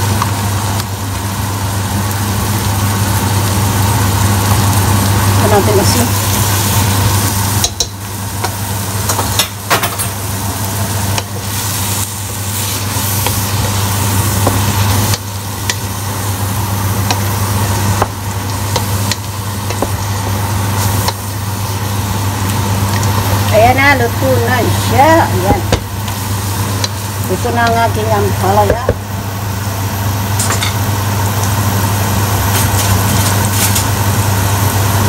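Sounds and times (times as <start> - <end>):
food sizzling in a pot: 0.0 - 35.0
steady low hum: 0.0 - 35.0.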